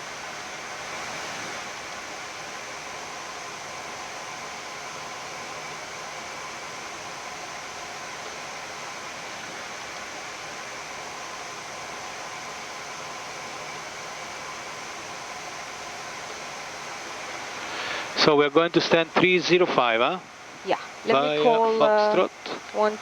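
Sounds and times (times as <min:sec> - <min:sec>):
aircraft engines hissing: 0:00.0 - 0:23.0
faint steady tones: 0:00.0 - 0:23.0.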